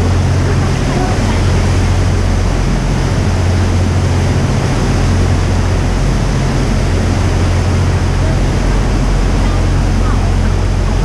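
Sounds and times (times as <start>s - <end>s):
boat engine humming: 0.0s - 11.0s
water rushing: 0.0s - 11.0s.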